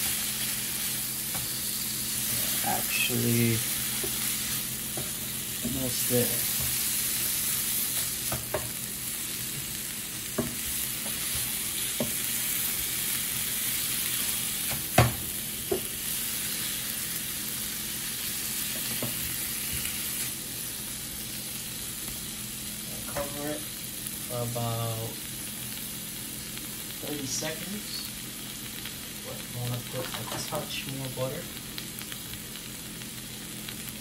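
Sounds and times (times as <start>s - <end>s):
food sizzling in butter: 0.0s - 34.0s.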